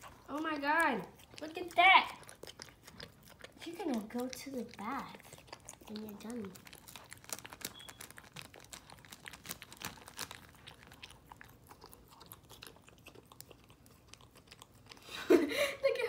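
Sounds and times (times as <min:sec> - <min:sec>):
dog licking and chewing: 0:00.0 - 0:16.0.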